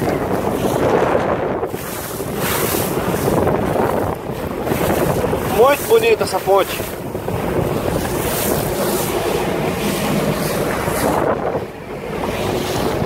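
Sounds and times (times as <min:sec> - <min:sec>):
choppy water slapping: 0:00.0 - 0:13.0
motorboat engine running: 0:00.0 - 0:13.0
wind buffeting microphone: 0:00.0 - 0:13.0.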